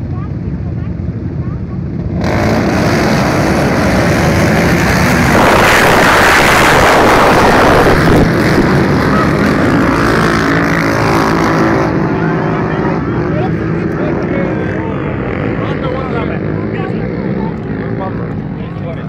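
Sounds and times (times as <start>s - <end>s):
quad bike engines revving: 0.0s - 19.0s.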